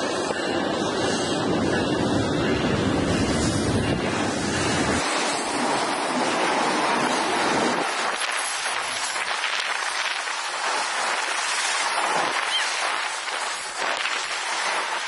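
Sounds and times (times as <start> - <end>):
freight train wheels on rail: 0.0 - 15.0
wind rumbling on microphone: 0.0 - 15.0.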